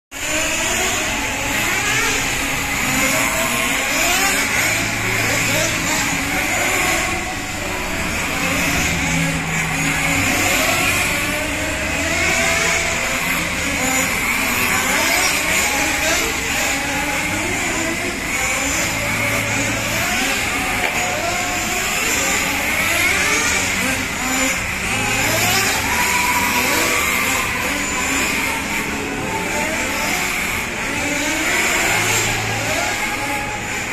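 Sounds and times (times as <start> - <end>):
small glow engines revving: 0.2 - 33.9.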